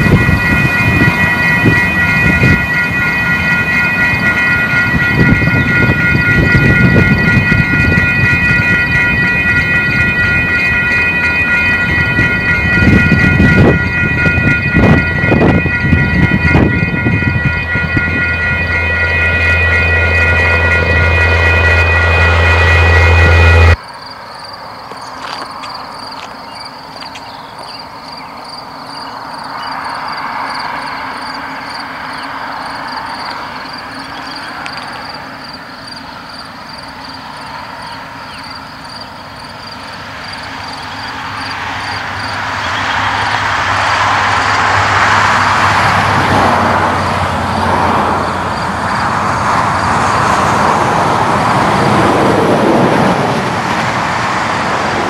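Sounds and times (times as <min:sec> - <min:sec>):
distant train rumble: 0:00.0 - 0:55.0
freight cars rumbling on rails: 0:00.0 - 0:55.0
locomotive diesel drone: 0:00.0 - 0:55.0.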